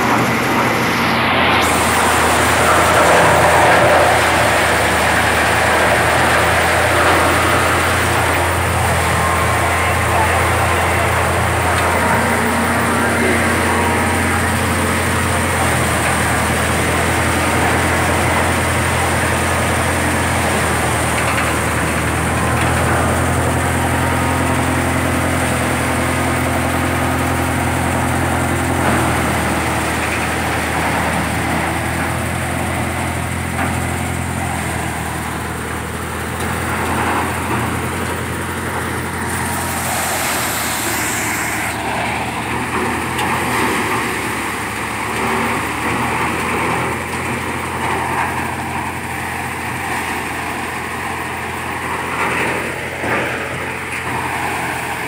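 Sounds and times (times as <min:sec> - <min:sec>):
thresher mechanical drone: 0:00.0 - 0:55.0.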